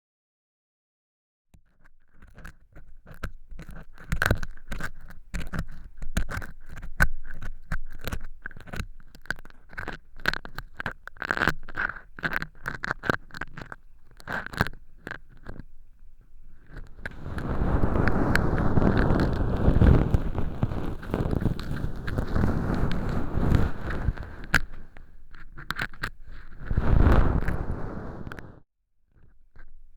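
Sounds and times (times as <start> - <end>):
earpick scraping fake earwax: 1.6 - 27.7.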